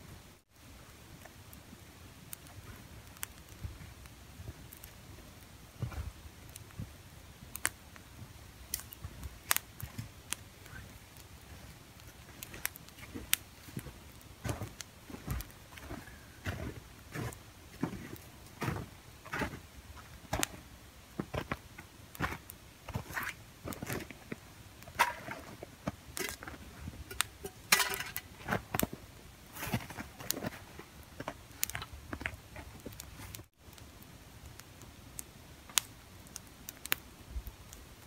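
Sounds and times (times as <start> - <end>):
rustle: 0.0 - 38.0.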